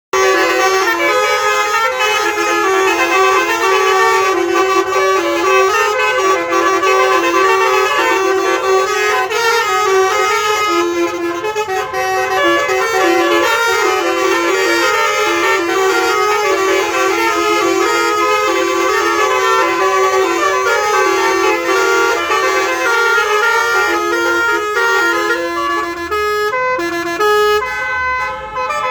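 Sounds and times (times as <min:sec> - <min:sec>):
bus multi-tone horn tune: 0:00.0 - 0:28.9.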